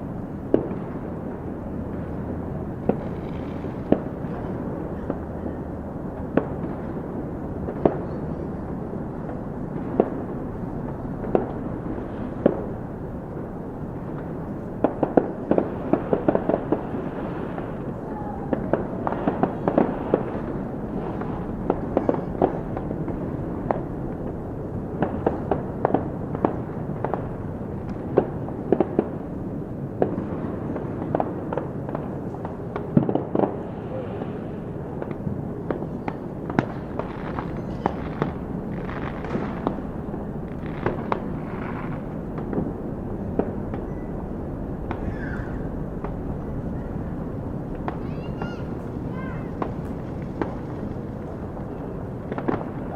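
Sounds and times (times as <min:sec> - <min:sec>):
fireworks bangs and crackling: 0:00.0 - 0:52.9
steady background rumble: 0:00.0 - 0:52.9.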